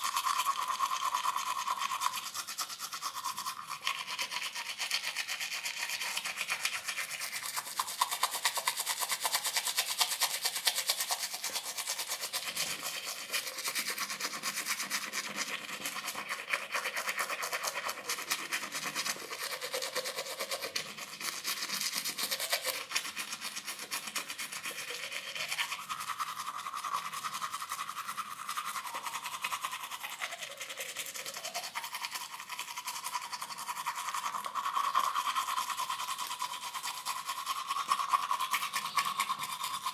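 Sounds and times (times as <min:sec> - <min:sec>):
toothbrush scrubbing teeth: 0:00.0 - 0:39.9.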